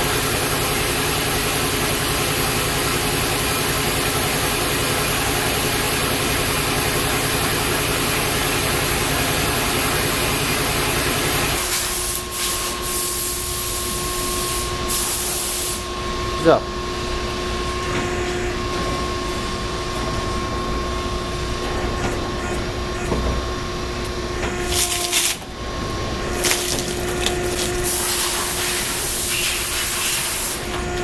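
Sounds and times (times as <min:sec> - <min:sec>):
hydraulic pump hissing and humming: 0:00.0 - 0:31.0.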